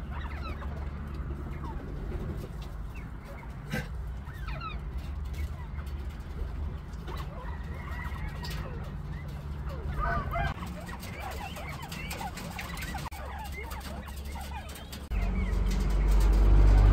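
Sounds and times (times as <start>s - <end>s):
quail chirping and twittering: 0.0s - 16.9s.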